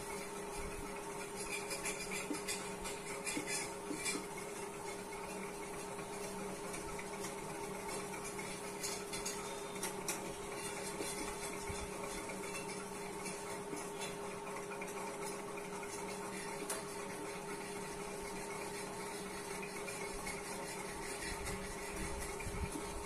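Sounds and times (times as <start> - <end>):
electrical fan hum: 0.0 - 23.0.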